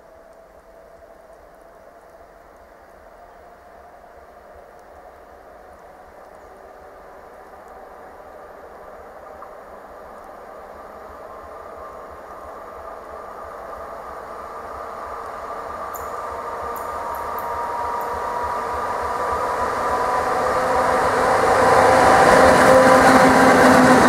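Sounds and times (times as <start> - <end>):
freight train running: 0.0 - 24.0
locomotive humming tones: 0.1 - 24.0.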